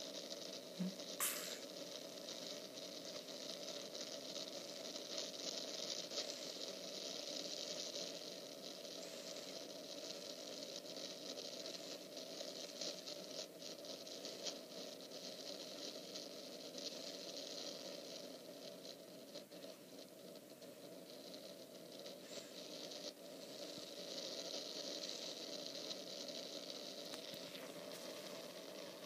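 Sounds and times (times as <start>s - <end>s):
faint crackling: 0.0s - 29.0s
steady hiss: 0.0s - 29.0s.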